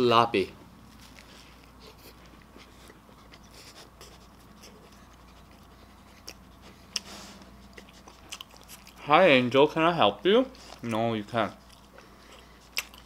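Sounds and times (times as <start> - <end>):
faint chewing: 0.8 - 9.8, 10.5 - 13.0.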